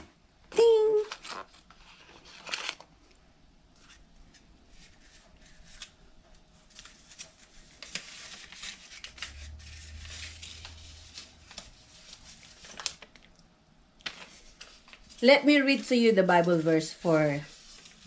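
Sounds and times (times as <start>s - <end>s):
paper rustling: 1.0s - 2.9s, 3.8s - 6.0s, 6.6s - 13.4s, 14.0s - 18.0s.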